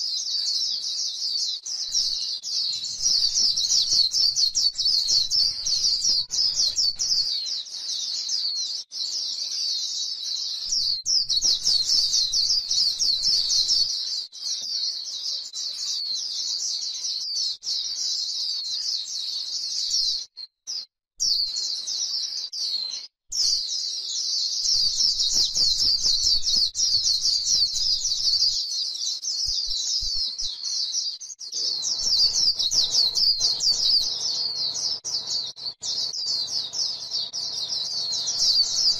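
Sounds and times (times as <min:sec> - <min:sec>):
bird twittering warble: 0:00.0 - 0:19.0, 0:24.4 - 0:38.9.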